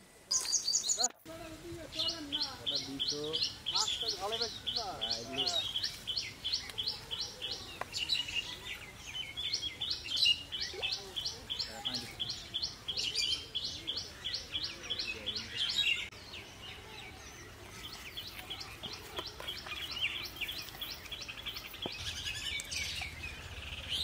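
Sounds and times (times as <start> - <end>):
bird chirping: 0.3 - 24.0.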